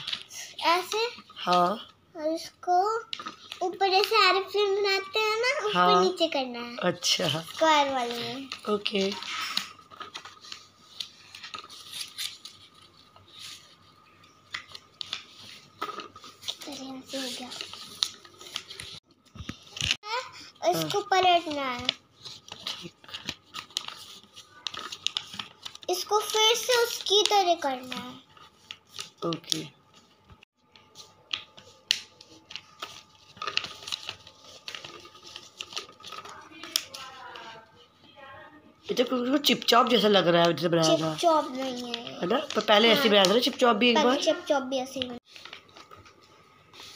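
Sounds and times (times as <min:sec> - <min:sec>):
paper rustling and crinkling: 0:00.0 - 0:01.9, 0:03.0 - 0:37.8, 0:38.8 - 0:46.9.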